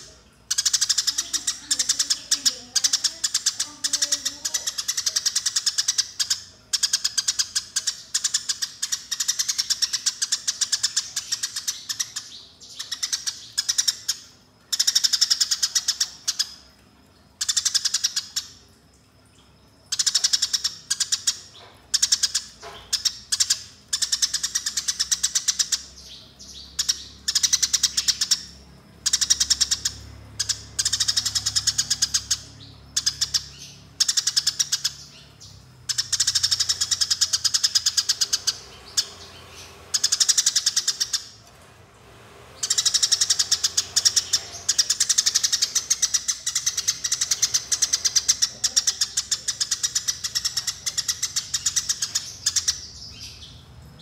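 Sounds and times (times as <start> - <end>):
sparrow chirping: 0.0 - 16.6, 19.9 - 41.4, 42.6 - 54.0.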